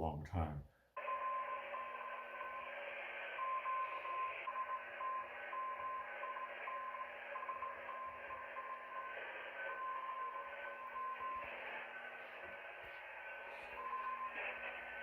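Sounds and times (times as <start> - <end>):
morse code tone: 1.0 - 15.0
receiver hiss: 1.0 - 15.0.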